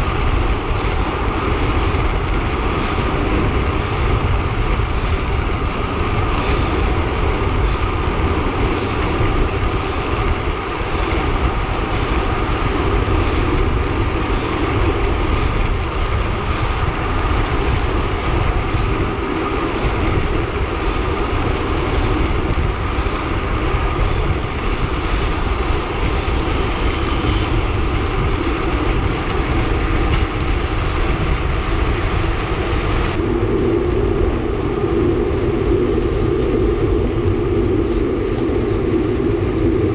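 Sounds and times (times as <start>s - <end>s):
bicycle tyre and drivetrain noise: 0.0s - 39.9s
wind rush on microphone: 0.0s - 39.9s.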